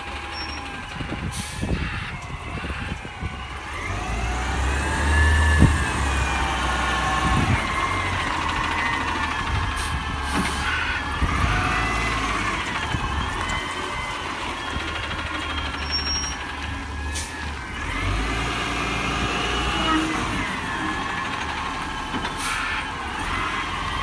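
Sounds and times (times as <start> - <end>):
diesel engine rumble: 0.0 - 24.0.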